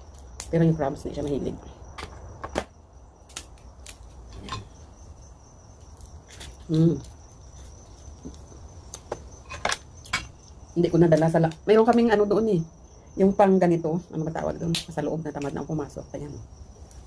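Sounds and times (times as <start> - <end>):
cricket trill: 0.0 - 17.0.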